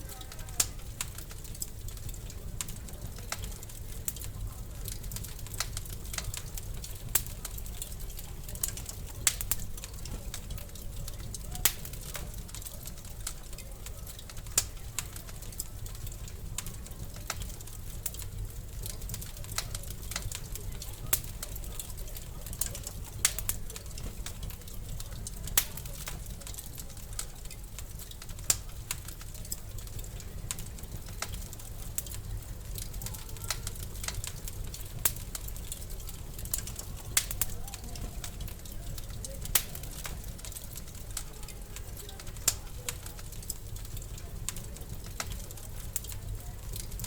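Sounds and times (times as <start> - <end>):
sharp pops and snaps of fire: 0.0 - 47.0
wood fire crackling: 0.0 - 47.0.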